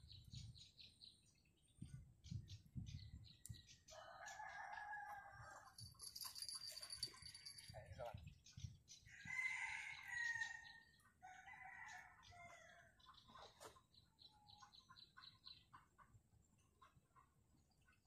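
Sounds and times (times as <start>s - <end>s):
birds calling and chirping: 0.0s - 18.0s.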